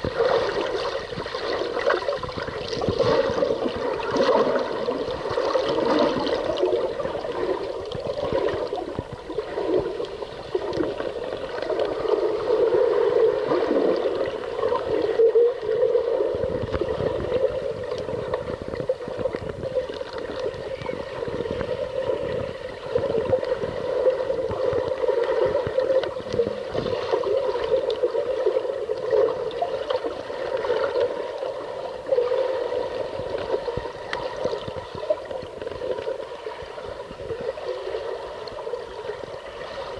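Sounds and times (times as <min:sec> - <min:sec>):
muffled underwater rushing gurgle: 0:00.0 - 0:39.9.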